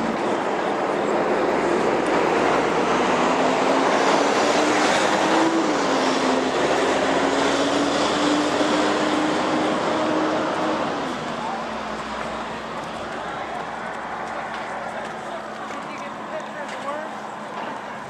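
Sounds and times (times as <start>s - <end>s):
vehicle rushing noise: 0.0s - 14.8s.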